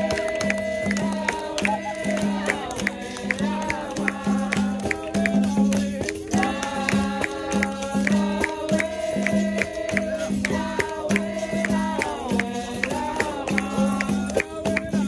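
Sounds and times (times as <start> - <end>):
pandeiro beat: 0.0 - 15.0
voices singing: 0.0 - 15.0.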